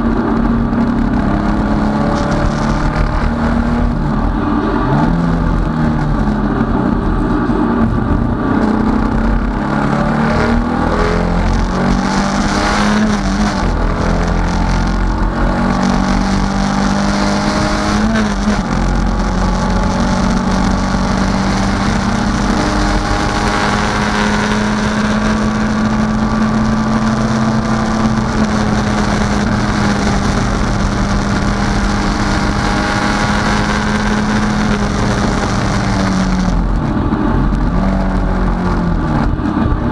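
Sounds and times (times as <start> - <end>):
race car engine from inside: 0.0 - 39.9.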